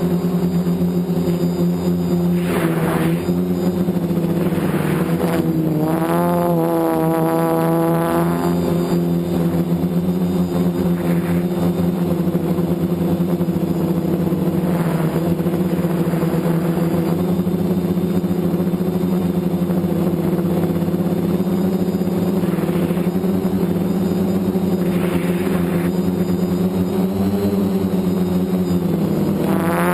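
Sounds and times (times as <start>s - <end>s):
drone propellers buzzing: 0.0s - 29.9s.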